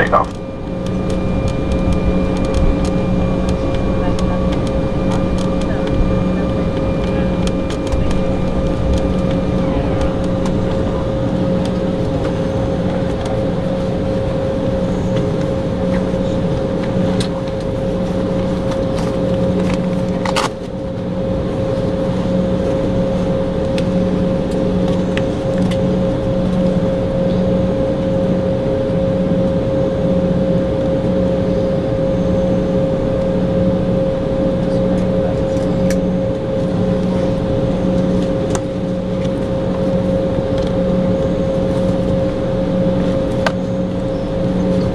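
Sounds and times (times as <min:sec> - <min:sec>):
jet engines idling whine: 0:00.0 - 0:44.9.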